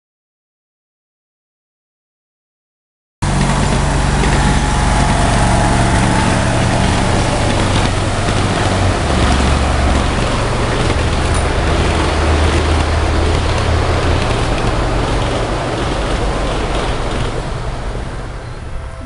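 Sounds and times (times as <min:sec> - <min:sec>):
miniature train motor hum: 0:03.2 - 0:19.0.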